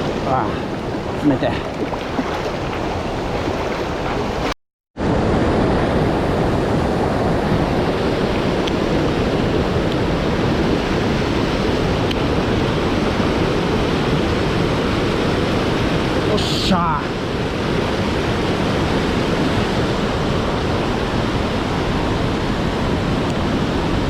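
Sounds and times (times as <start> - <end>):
rushing mountain stream: 0.0 - 24.0.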